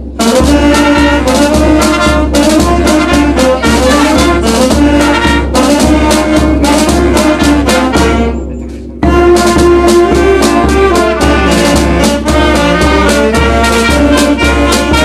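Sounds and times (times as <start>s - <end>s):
bass drum beating: 0.0s - 15.0s
brass horns playing: 0.0s - 15.0s
snare drum: 0.0s - 15.0s.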